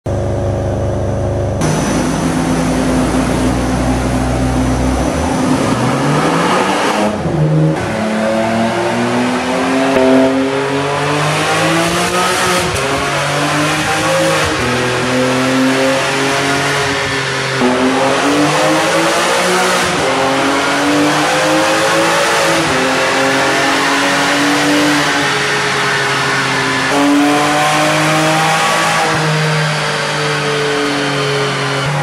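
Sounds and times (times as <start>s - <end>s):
car engine revving: 1.6s - 32.0s.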